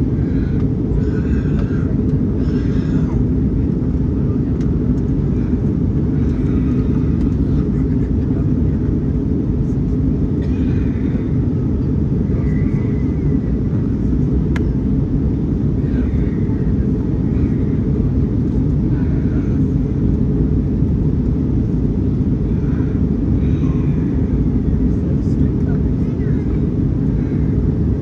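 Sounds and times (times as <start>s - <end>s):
airliner rumble: 0.0s - 28.0s.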